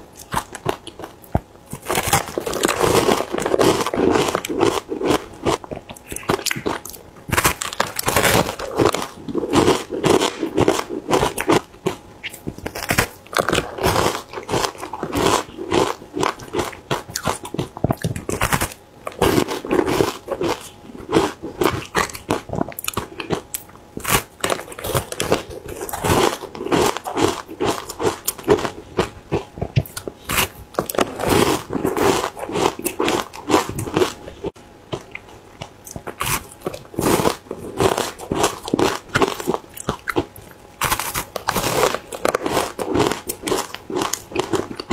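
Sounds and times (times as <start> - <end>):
chewing and crunching ice: 0.2 - 44.9.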